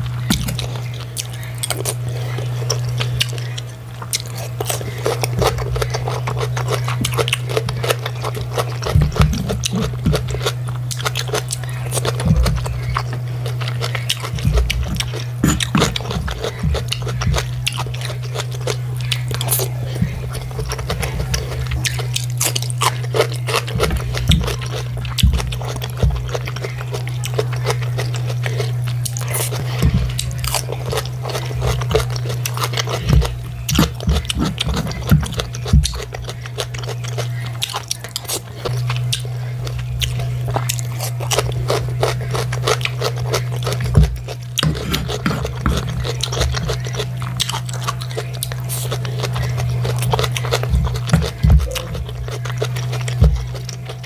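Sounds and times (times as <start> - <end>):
chewing food: 0.0 - 54.0
steady low hum: 0.0 - 54.0.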